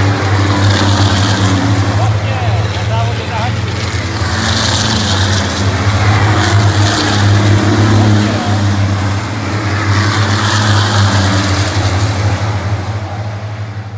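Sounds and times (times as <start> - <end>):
racing engines droning: 0.0 - 13.9
racing vehicles passing: 0.0 - 13.9.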